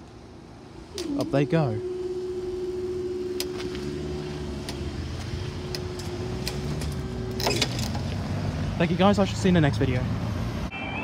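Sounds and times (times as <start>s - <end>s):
barrier power unit humming: 0.0s - 9.6s
road vehicles rumbling: 0.0s - 11.0s.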